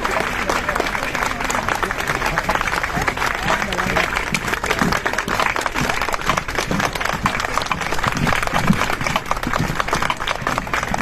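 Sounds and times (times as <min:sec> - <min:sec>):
audience applauding: 0:00.0 - 0:11.0
faint crowd voices: 0:00.0 - 0:11.0.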